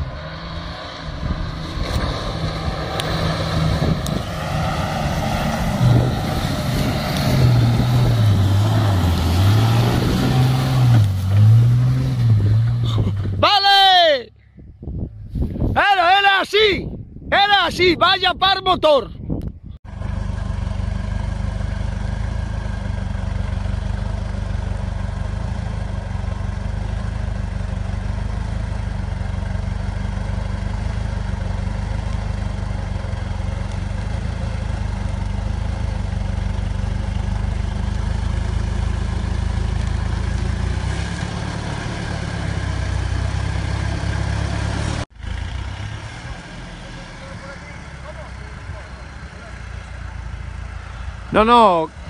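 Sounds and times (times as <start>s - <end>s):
pickup engine running under load: 0.0s - 13.4s, 19.8s - 52.0s
quieter engine: 0.0s - 15.7s, 18.4s - 52.0s.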